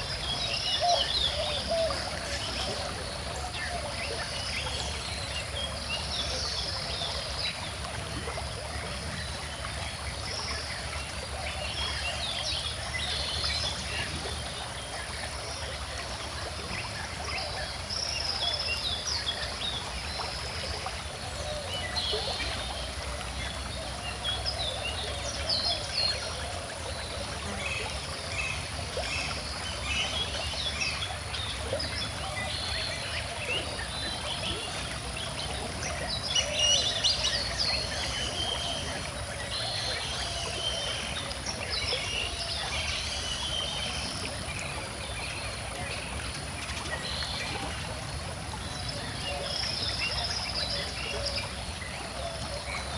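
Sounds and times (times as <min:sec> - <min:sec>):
stream running: 0:00.0 - 0:52.9.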